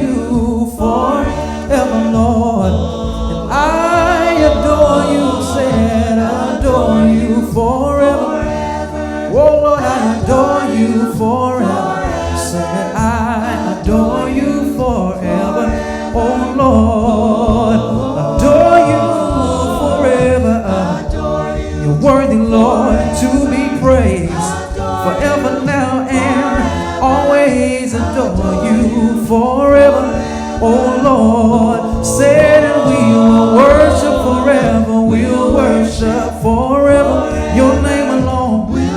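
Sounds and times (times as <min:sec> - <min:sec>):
bass line: 0:00.0 - 0:38.9
drums: 0:00.0 - 0:38.9
group singing gospel: 0:00.0 - 0:38.9.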